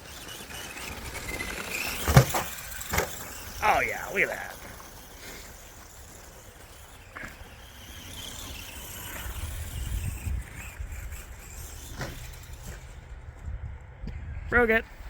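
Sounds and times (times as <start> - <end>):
electric motor whine: 0.0 - 14.2
tyre noise: 0.0 - 14.2.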